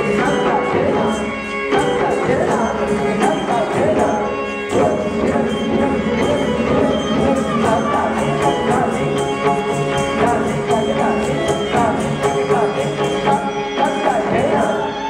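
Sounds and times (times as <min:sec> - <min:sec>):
classical dance music over speakers: 0:00.0 - 0:15.0.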